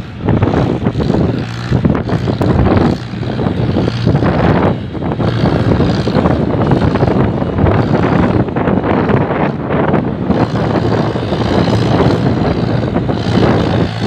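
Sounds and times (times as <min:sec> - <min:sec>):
tractor diesel engine under load: 0:00.0 - 0:14.0
wind rushing across microphone: 0:00.0 - 0:14.0.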